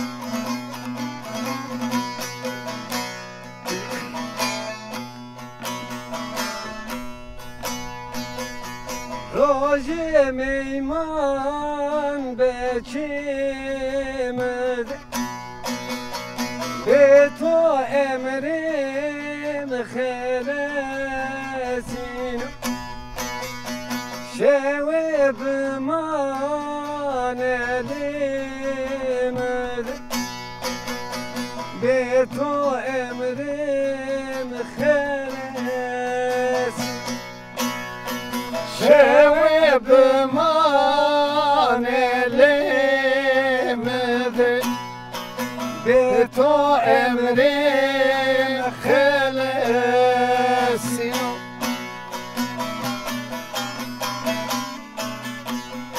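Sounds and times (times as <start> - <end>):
plucked saz melody: 0.0 - 55.9.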